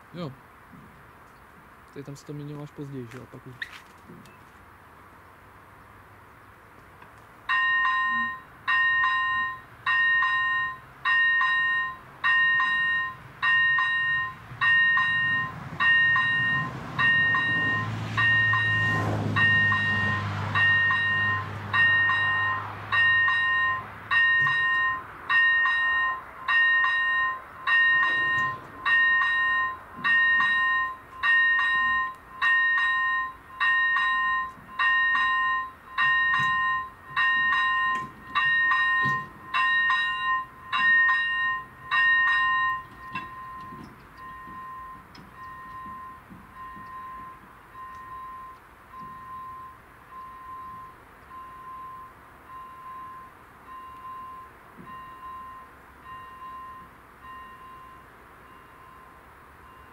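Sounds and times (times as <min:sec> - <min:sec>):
train rumble passing: 0:00.0 - 0:59.9
level crossing bell ringing: 0:07.5 - 0:59.9.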